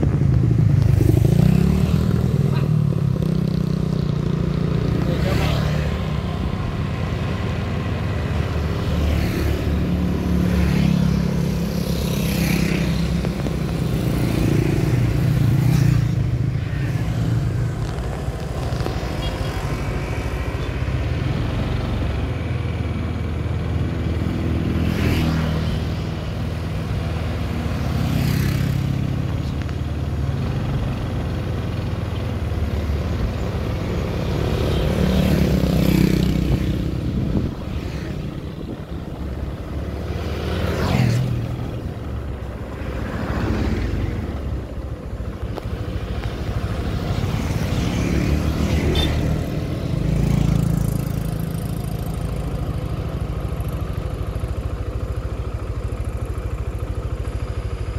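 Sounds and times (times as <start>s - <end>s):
motorcycles passing by: 0.0s - 57.9s.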